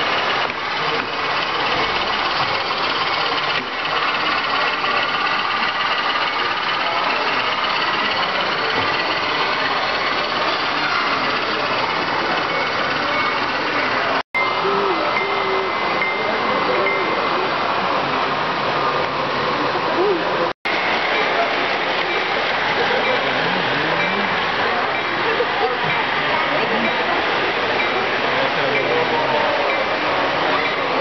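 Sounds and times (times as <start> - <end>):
indistinct crowd chatter: 0.0 - 31.0
model trains running on track: 0.0 - 31.0.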